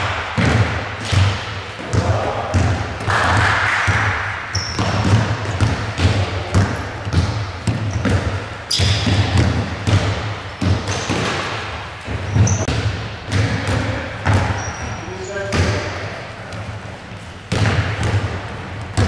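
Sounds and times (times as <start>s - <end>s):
basketball bouncing on wooden floor: 0.1s - 16.6s, 17.5s - 19.0s
sneakers squeaking: 0.4s - 19.0s.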